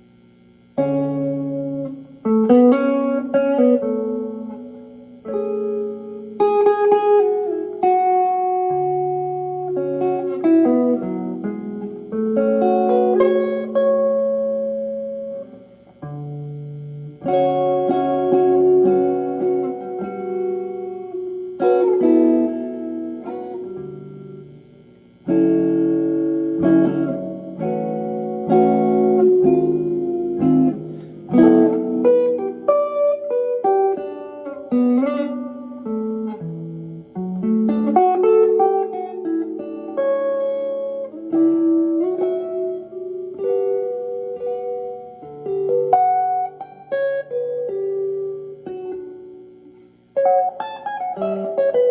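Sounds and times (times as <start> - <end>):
guitar with spring reverb: 0.0 - 51.9.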